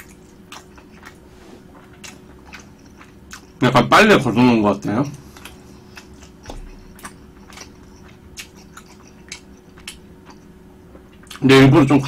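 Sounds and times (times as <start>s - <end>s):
biting and chewing food: 0.0s - 3.6s, 5.1s - 11.4s.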